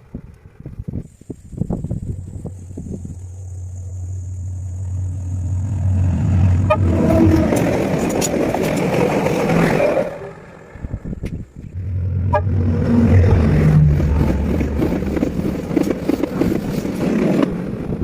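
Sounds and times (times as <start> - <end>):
train rumbling: 0.0 - 18.0
wheels clattering on rails: 0.0 - 18.0.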